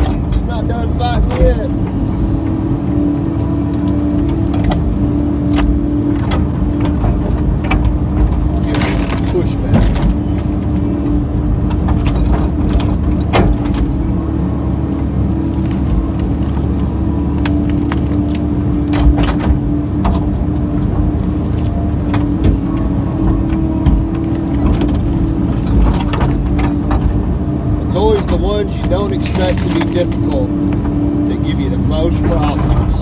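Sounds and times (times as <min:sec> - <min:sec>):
cracks of roots tearing: 0:00.0 - 0:33.0
excavator engine and hydraulics: 0:00.0 - 0:33.0.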